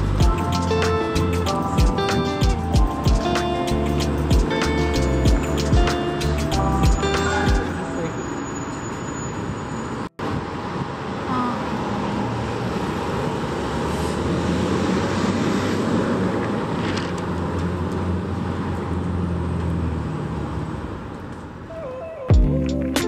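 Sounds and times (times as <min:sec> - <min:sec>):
road vehicles passing: 0:00.0 - 0:23.0.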